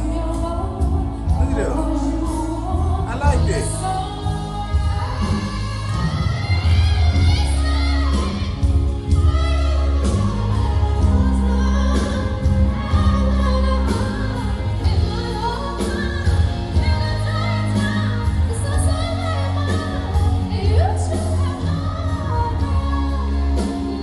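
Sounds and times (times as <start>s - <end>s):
heavy bass line: 0.0s - 24.0s
live band playing: 0.0s - 24.0s
woman singing: 0.0s - 24.0s.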